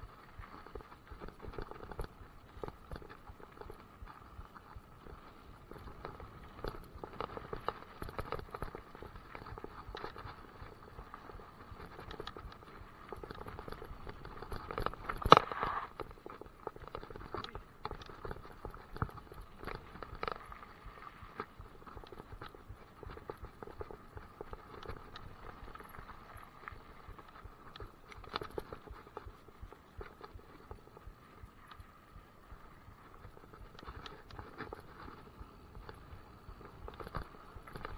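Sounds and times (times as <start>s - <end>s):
mountain bike rattling over dirt trail: 0.0s - 37.9s.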